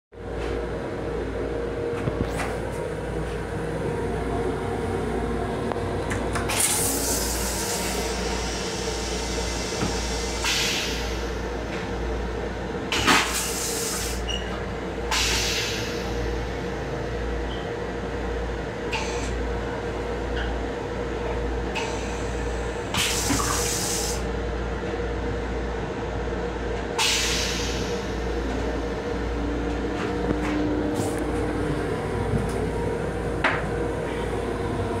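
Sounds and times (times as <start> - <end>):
moving train rumble and hum: 0.1 - 35.0.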